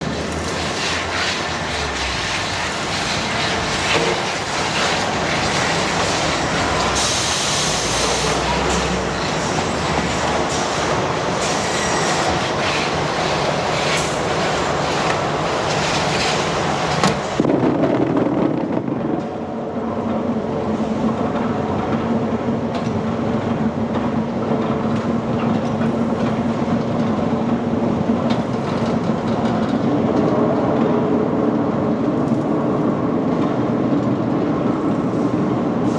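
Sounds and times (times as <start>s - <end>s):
factory machinery rattling: 0.0s - 35.9s.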